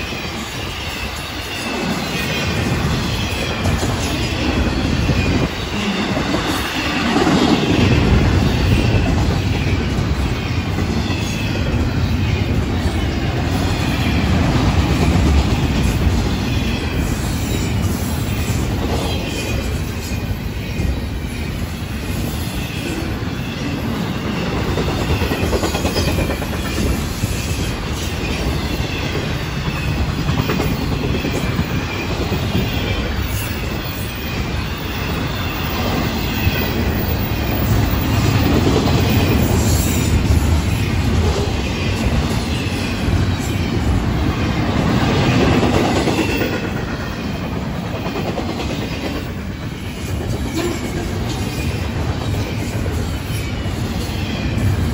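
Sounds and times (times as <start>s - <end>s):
clickety-clack of wheels: 0.0s - 20.9s, 22.1s - 54.9s
train wheels rumbling on rail: 0.0s - 54.9s.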